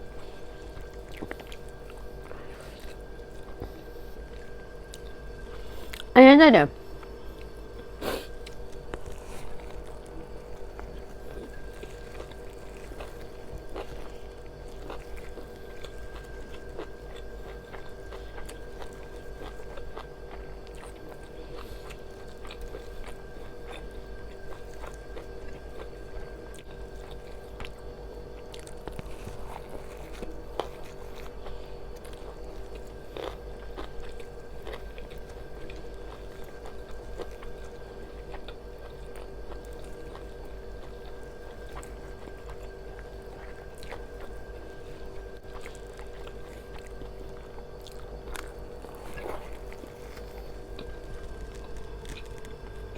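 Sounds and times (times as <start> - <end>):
person chewing crunchy food: 0.0 - 6.1, 6.8 - 52.9
background hum: 0.0 - 52.9.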